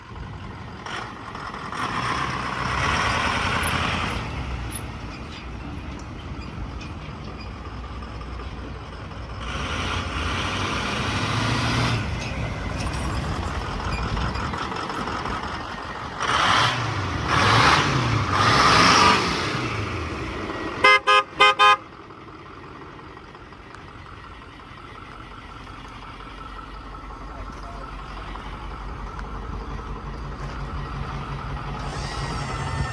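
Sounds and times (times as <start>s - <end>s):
diesel engine revving: 0.0s - 6.8s, 7.5s - 32.9s
diesel engine idling: 0.0s - 32.9s.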